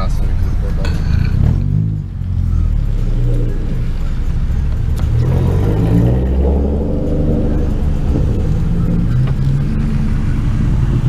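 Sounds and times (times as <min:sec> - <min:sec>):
car engines rumbling past: 0:00.0 - 0:11.0.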